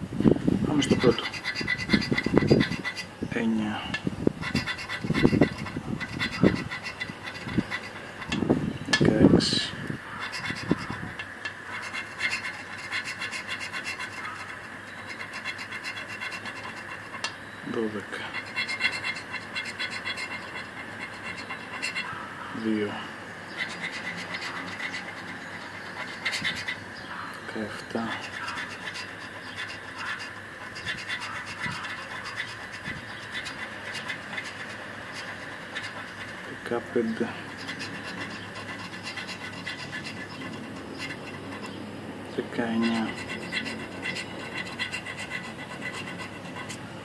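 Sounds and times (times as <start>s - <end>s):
coin scratching a scratch card: 0.7s - 3.1s, 4.4s - 26.9s, 27.5s - 41.8s, 42.4s - 46.9s.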